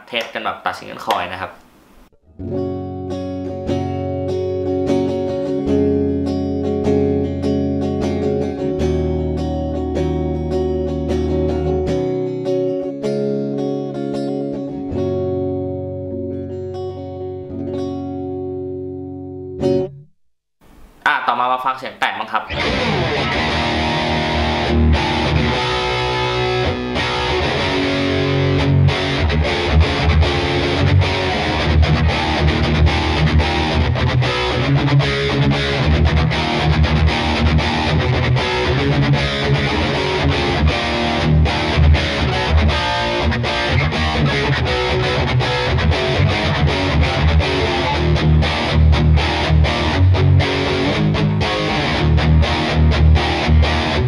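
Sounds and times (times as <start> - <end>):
distorted electric guitar riffs: 2.3 - 20.0, 22.3 - 54.0.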